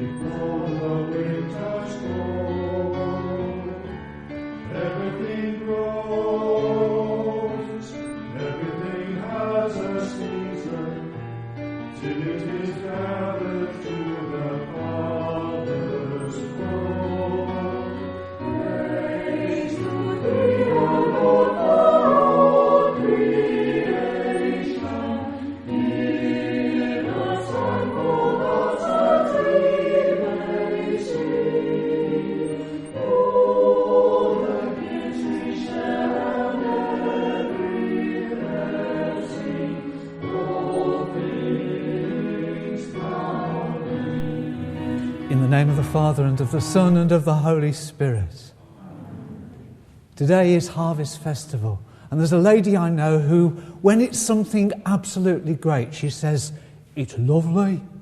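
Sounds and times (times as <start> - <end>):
choir singing a hymn: 0.0 - 56.6.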